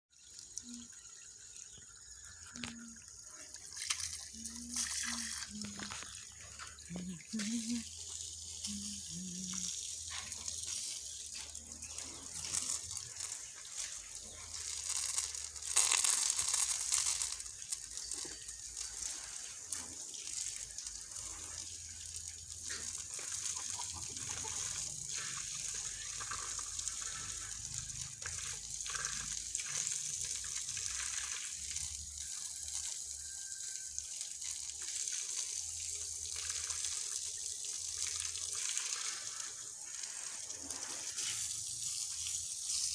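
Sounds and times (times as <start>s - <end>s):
falling water splashing: 2.4s - 42.9s.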